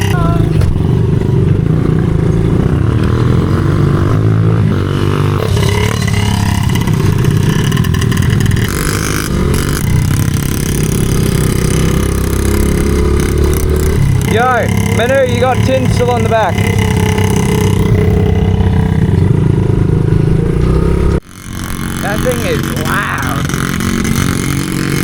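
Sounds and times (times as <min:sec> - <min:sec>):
pit bike engine revving: 0:00.0 - 0:25.0.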